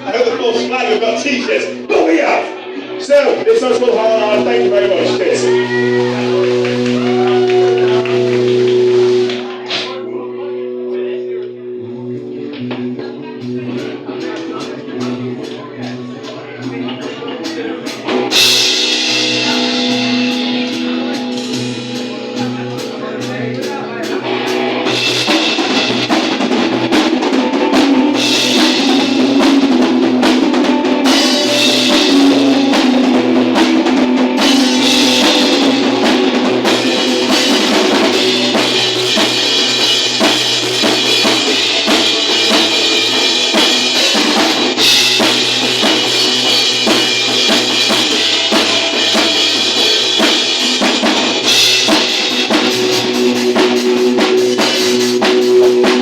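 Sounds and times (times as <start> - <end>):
drum kit: 0.0 - 11.5, 12.1 - 56.0
bass line: 0.0 - 16.9, 17.8 - 56.0
live band playing: 0.0 - 56.0.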